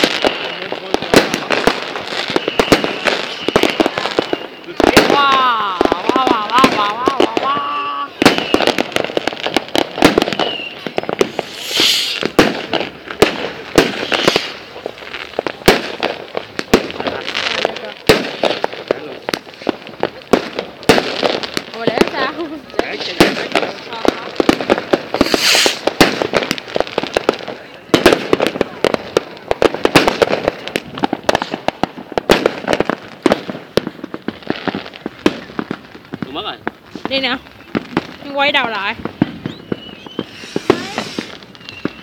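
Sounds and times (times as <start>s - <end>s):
fireworks bangs and pops: 0.0s - 42.0s
fireworks crackle: 0.0s - 42.0s.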